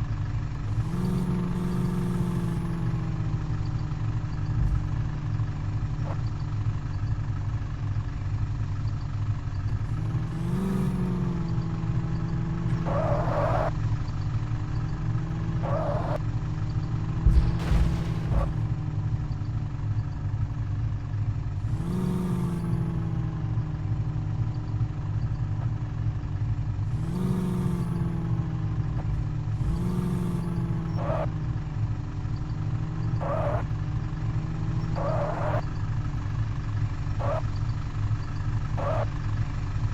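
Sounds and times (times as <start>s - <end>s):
truck engine revving: 0.0s - 6.8s, 9.7s - 19.8s, 21.5s - 25.8s, 26.7s - 39.9s.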